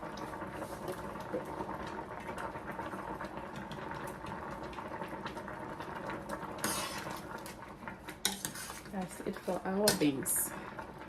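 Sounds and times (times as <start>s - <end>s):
pot boiling and bubbling: 0.0s - 11.0s.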